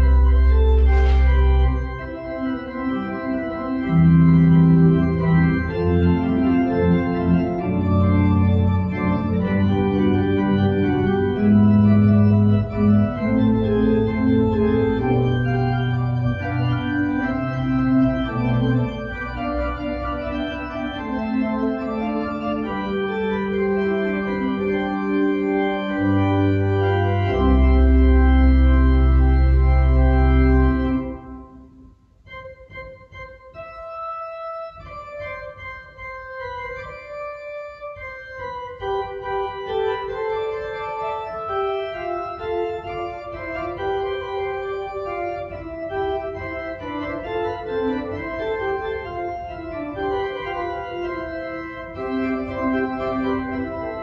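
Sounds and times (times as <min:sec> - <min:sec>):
church organ playing: 0:00.0 - 0:54.0.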